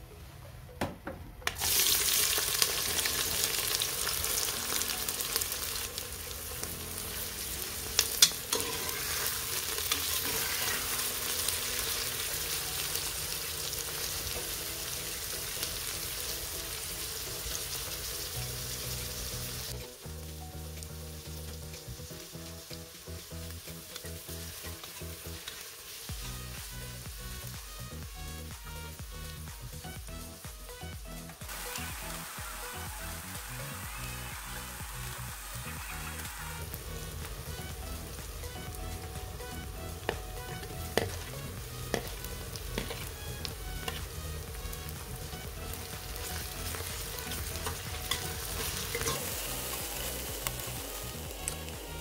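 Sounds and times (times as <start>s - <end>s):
food sizzling in a pan: 1.6s - 52.0s.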